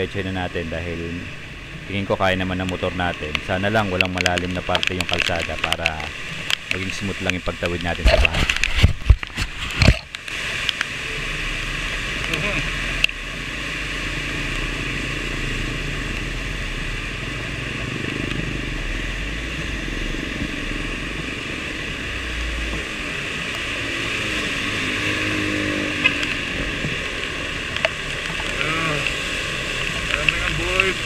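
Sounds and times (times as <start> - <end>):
water spray and rain hissing: 0.0 - 31.0.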